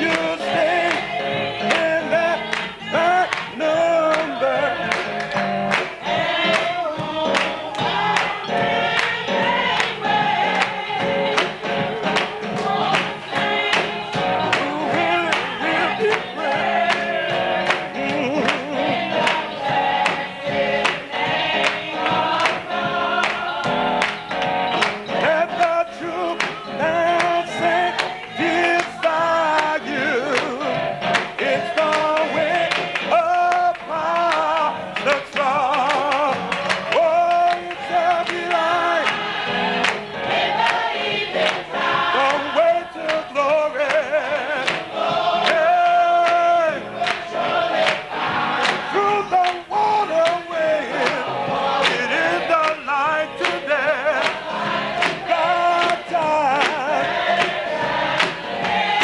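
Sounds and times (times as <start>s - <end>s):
gospel choir singing: 0.0s - 59.0s.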